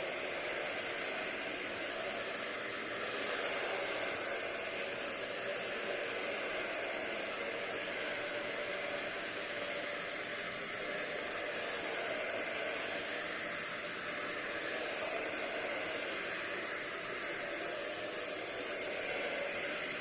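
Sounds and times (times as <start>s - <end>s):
stick vacuum running: 0.0s - 20.0s.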